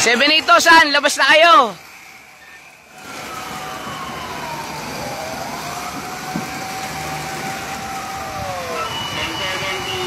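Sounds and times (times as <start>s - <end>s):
fire truck sirens wailing: 0.0s - 10.0s.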